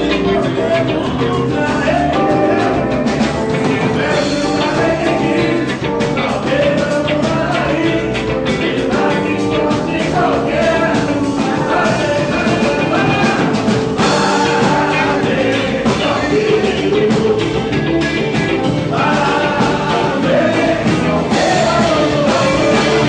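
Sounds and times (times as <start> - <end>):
band playing upbeat song: 0.0 - 23.0
person singing: 0.0 - 23.0.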